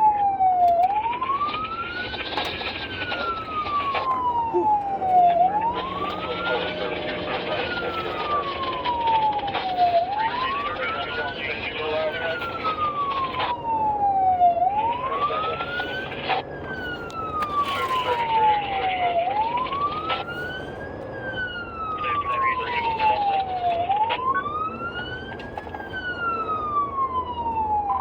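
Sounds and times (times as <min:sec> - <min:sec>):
emergency siren wailing: 0:00.0 - 0:28.0
road noise: 0:00.0 - 0:28.0.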